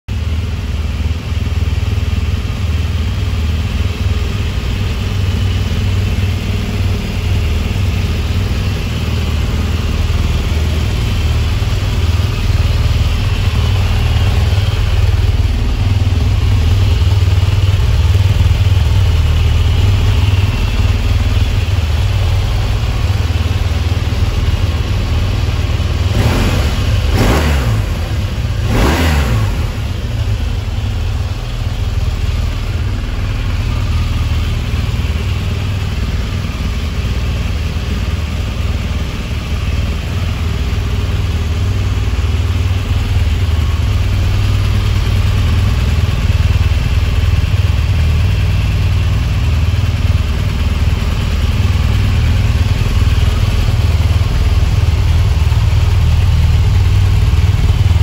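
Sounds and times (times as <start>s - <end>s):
motorcycle engine idling: 0.1s - 58.0s.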